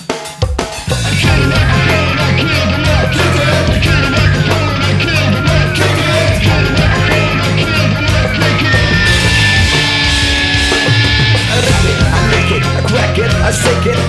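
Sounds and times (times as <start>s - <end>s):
loud rock music: 0.0s - 14.0s
held high note: 1.0s - 14.0s.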